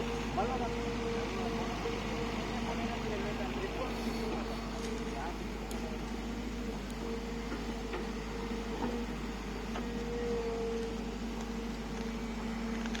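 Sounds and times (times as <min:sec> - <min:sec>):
excavator diesel engine humming: 0:00.0 - 0:13.0.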